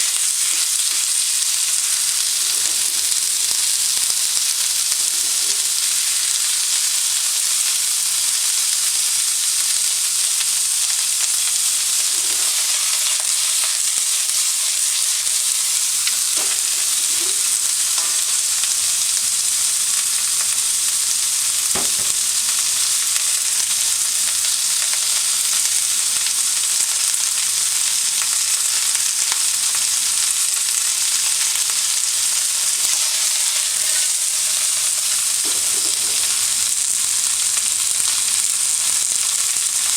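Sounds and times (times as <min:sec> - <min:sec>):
food sizzling in a wok: 0:00.0 - 0:39.9.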